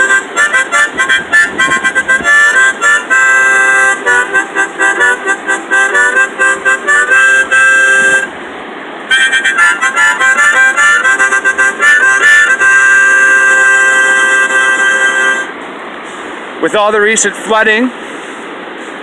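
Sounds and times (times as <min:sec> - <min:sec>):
harmonica playing: 0:00.0 - 0:16.3.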